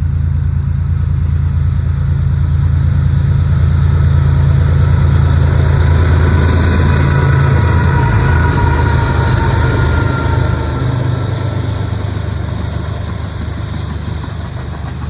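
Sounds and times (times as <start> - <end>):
diesel locomotive rumble: 0.0 - 15.0
train hiss: 0.0 - 15.0.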